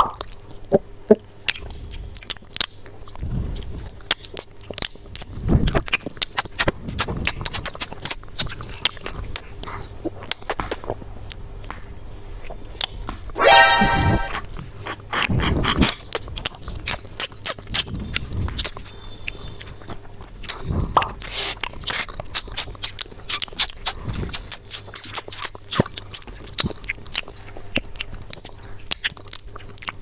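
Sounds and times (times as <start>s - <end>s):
crunchy bites and chewing: 1.4s - 11.4s, 14.8s - 30.0s.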